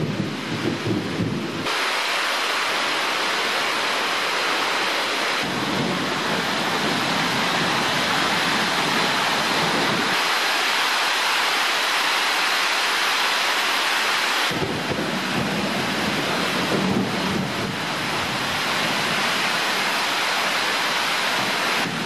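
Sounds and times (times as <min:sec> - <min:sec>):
heavy rain on foliage: 0:00.0 - 0:22.0.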